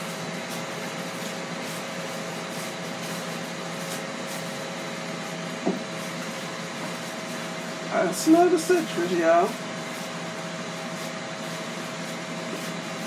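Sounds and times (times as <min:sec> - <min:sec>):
appliance fan humming: 0:00.0 - 0:13.0.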